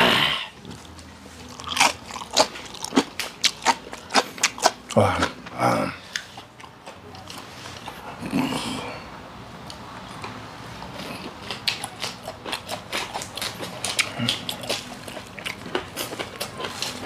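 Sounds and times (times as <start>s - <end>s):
crunchy food being chewed: 0.6s - 9.0s, 9.6s - 17.0s.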